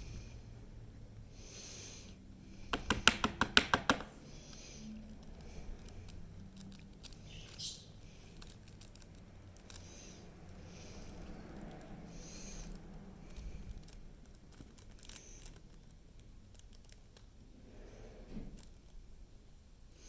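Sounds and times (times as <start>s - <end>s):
faint breaths: 0.0s - 16.7s, 17.4s - 19.3s.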